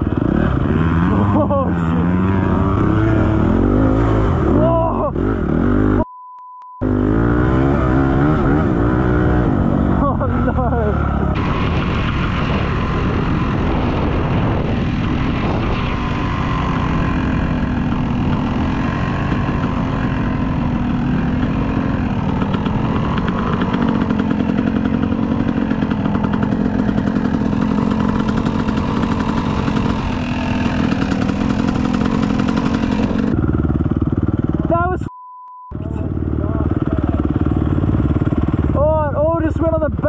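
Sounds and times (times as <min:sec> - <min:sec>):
dirt bike engine revving: 0:00.0 - 0:06.0, 0:06.8 - 0:35.0, 0:35.8 - 0:40.0.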